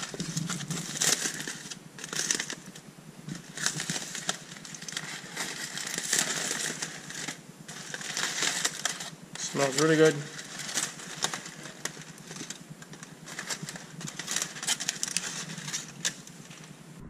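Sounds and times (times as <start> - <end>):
aluminium foil crinkling: 0.0 - 16.8.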